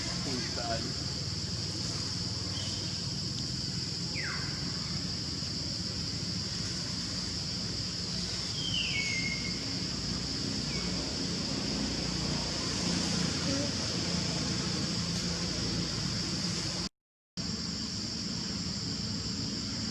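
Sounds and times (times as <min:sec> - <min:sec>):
high insect drone: 0:00.0 - 0:19.9.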